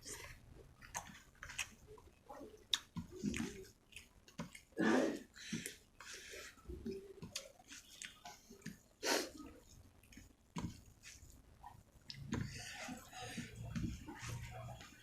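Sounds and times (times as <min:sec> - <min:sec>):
close-up chewing food: 0:00.0 - 0:15.0.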